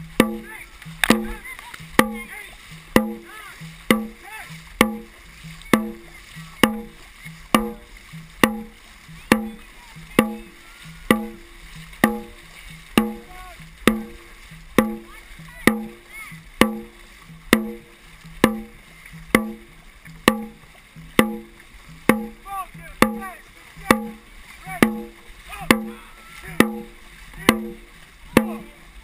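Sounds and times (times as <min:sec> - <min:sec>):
drum beaten steadily: 0:00.0 - 0:29.0
paddles splashing: 0:00.0 - 0:29.0
water rushing: 0:00.0 - 0:29.0.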